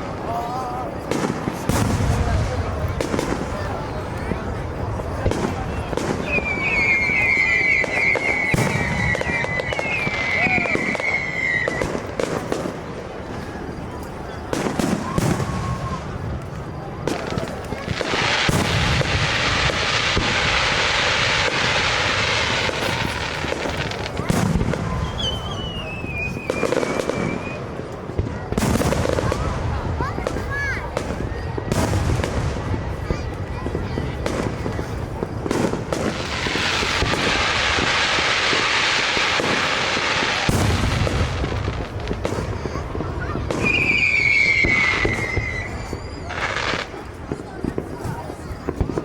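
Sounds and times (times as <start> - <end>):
fireworks crackling hiss: 0.0 - 49.0
sharp firework pops: 1.0 - 49.0.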